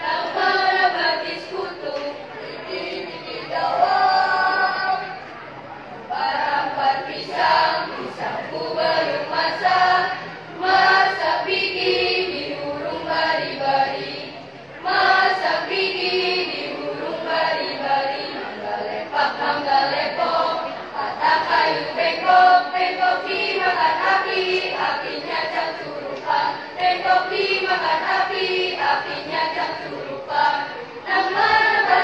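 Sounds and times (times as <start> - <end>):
children's choir singing: 0.0 - 32.0.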